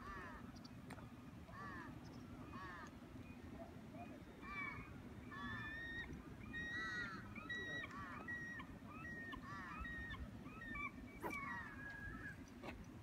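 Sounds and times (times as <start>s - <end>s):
birds calling: 1.5s - 13.0s.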